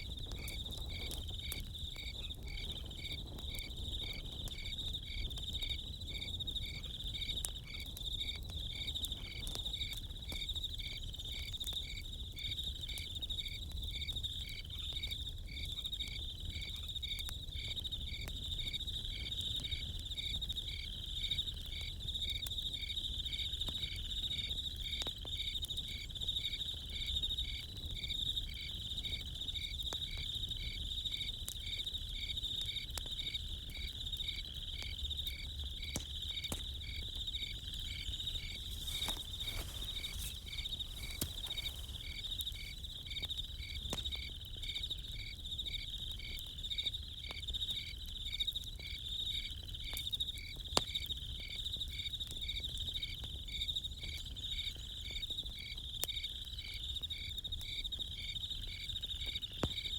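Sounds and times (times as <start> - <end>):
campfire crackling: 0.0 - 49.1
crickets chirping: 0.0 - 59.9
insect trill: 0.0 - 59.9.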